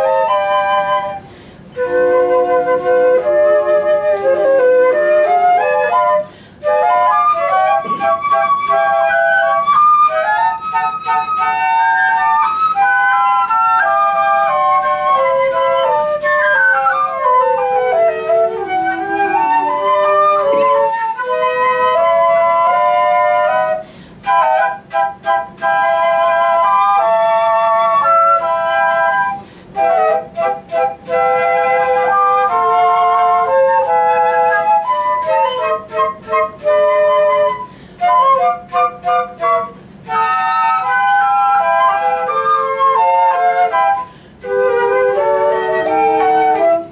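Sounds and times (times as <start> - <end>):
flute melody: 0.0 - 46.9.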